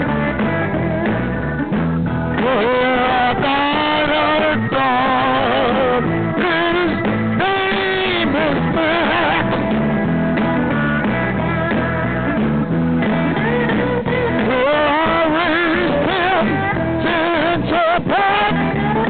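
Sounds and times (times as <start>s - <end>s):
band playing: 0.0s - 19.0s
walking bass line: 0.0s - 19.0s.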